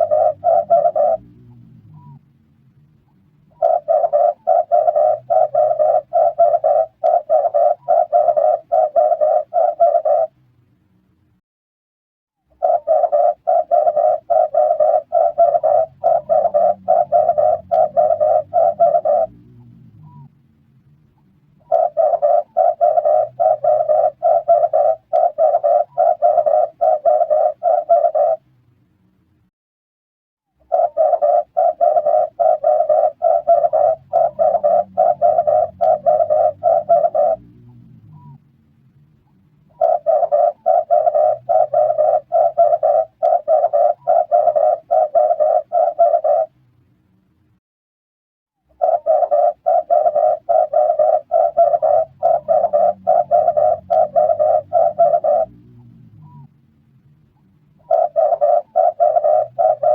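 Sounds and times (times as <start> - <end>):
dove cooing: 0.0 - 2.2, 3.5 - 10.4, 12.6 - 20.3, 21.6 - 28.4, 30.6 - 38.4, 39.7 - 46.6, 48.7 - 56.5, 57.8 - 59.9.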